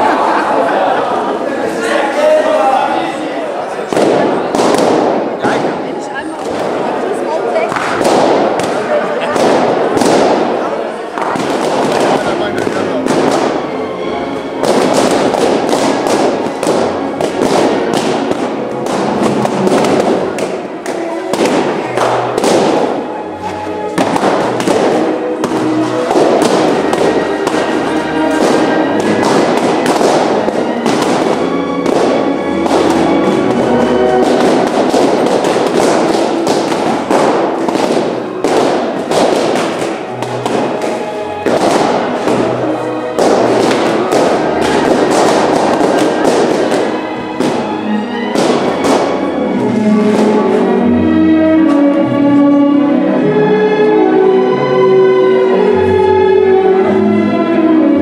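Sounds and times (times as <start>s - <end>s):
music playing: 0.0s - 58.0s
balloons bursting: 3.0s - 52.9s.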